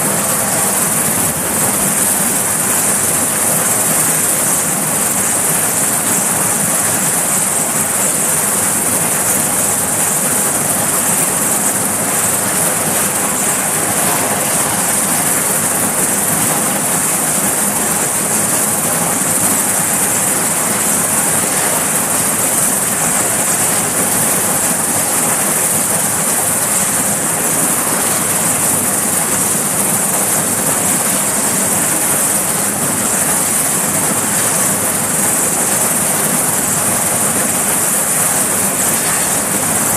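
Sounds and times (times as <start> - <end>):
helicopter rotor rush: 0.0 - 39.9
helicopter turbine whine: 0.0 - 39.9.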